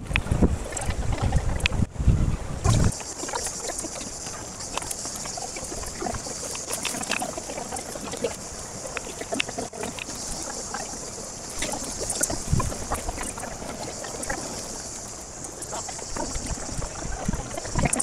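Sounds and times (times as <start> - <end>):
steady high hiss: 2.3 - 18.0.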